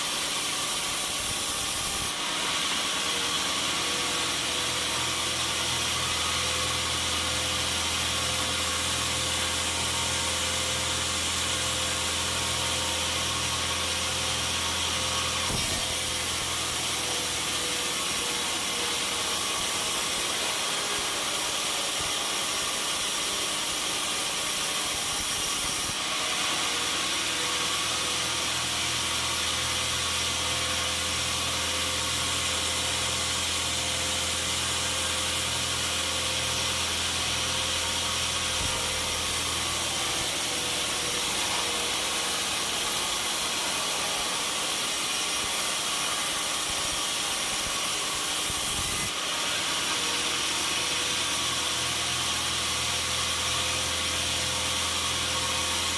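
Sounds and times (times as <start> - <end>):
saw cutting through log: 0.0 - 55.9.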